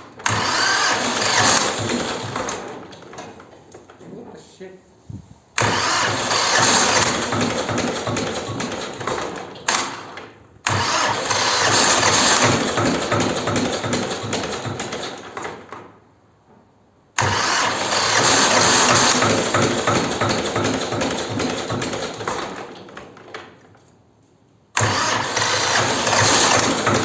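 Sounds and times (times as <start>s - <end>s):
tractor diesel engine cranking and firing: 0.0s - 4.5s, 5.5s - 27.0s.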